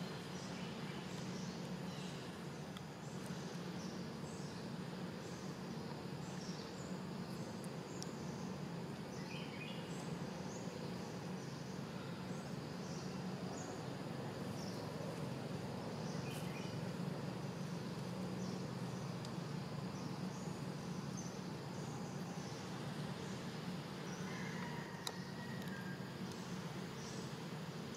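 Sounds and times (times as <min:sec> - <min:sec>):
low background rumble: 0:00.0 - 0:27.9.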